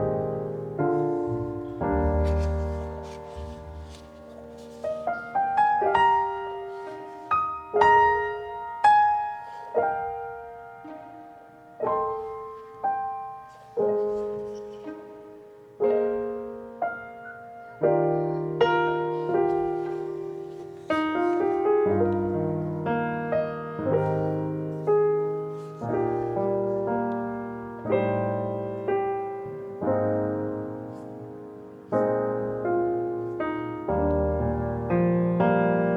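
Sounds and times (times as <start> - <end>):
slow gentle solo piano: 0.0 - 35.9.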